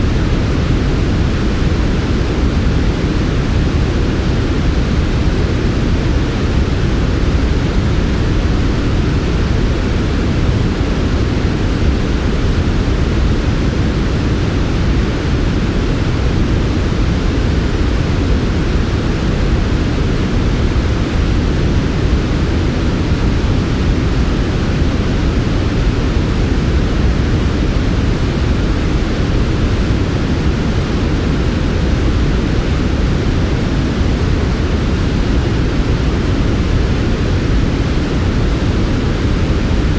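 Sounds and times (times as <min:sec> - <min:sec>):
low synthetic noise hiss: 0:00.0 - 0:39.9.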